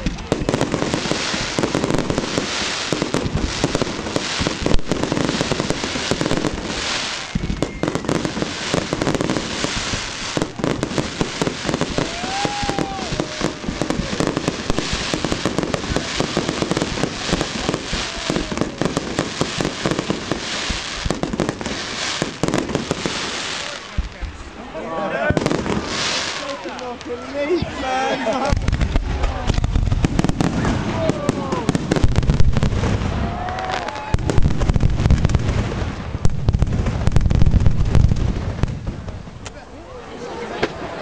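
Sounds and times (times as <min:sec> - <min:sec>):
fireworks crackling and popping: 0:00.0 - 0:41.0.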